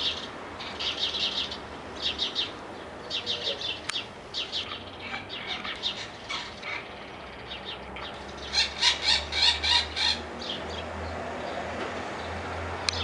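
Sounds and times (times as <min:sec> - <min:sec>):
bird chirping: 0:00.0 - 0:11.6.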